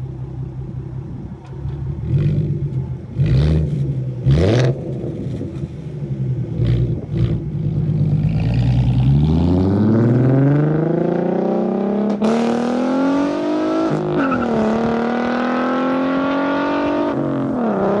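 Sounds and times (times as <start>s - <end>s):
car engine revving: 1.5s - 18.0s.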